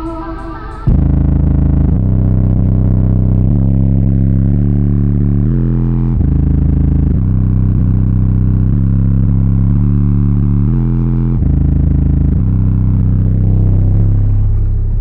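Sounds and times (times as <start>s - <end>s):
bass-heavy music from subwoofer: 0.0s - 15.0s.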